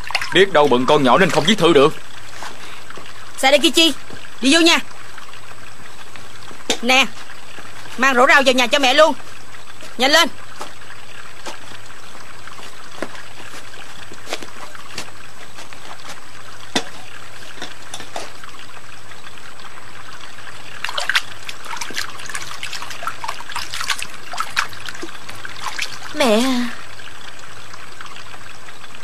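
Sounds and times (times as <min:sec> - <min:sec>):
small splashes: 0:00.0 - 0:28.6
water trickling: 0:00.0 - 0:29.0.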